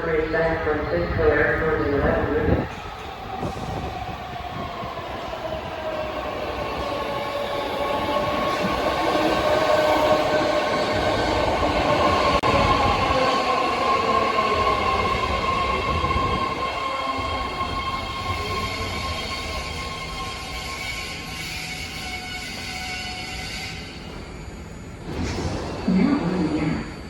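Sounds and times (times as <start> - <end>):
train rumbling: 0.0 - 27.0.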